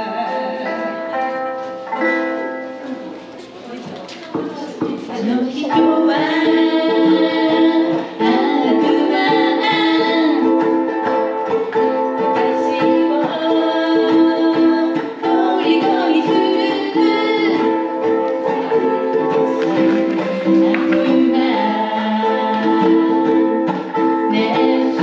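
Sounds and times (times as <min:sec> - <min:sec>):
voices singing pop melody: 0:00.0 - 0:03.2, 0:04.6 - 0:25.0
ukuleles strumming: 0:00.0 - 0:25.0.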